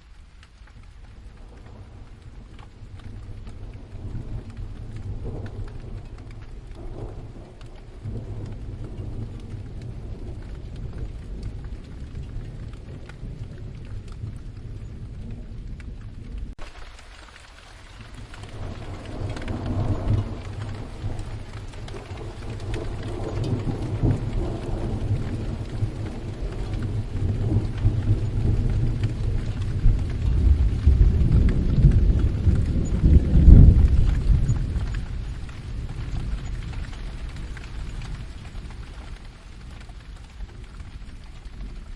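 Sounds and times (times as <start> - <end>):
steady rain: 0.0 - 41.9
rolling thunder: 0.8 - 16.6, 17.8 - 41.9.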